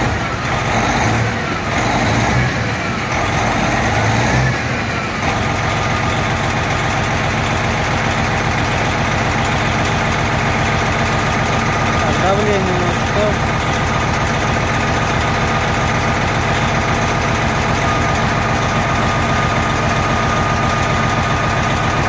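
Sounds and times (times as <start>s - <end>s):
diesel engine revving and idling: 0.0s - 22.0s.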